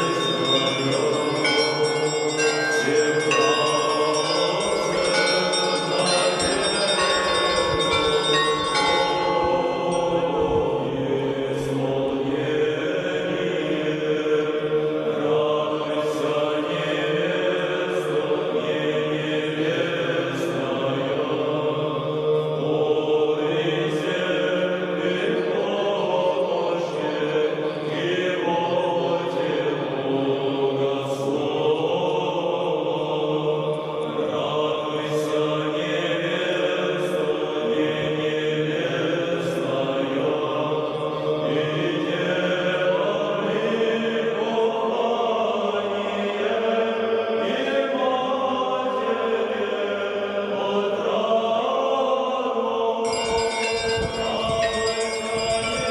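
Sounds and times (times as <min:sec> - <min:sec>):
crowd chanting: 0:00.0 - 0:53.4.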